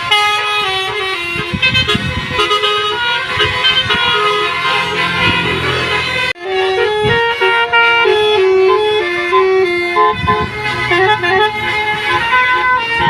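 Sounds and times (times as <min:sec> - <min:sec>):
bus musical horn tune: 0:00.0 - 0:13.0.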